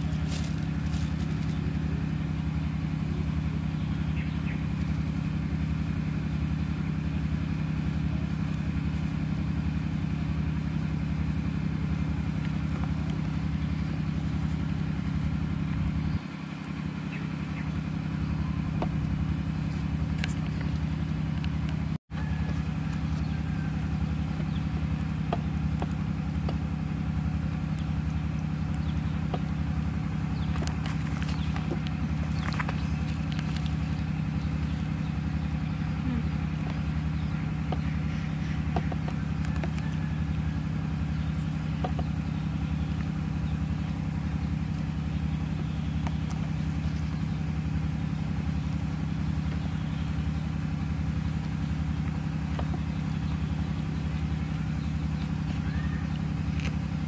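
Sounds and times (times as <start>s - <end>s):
low pulsing mechanical hum: 0.0s - 57.0s.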